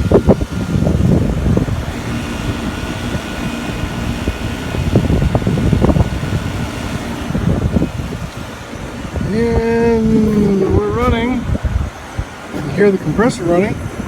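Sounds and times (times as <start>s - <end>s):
air conditioning unit humming: 0.0s - 14.0s
wind buffeting microphone: 0.0s - 14.0s.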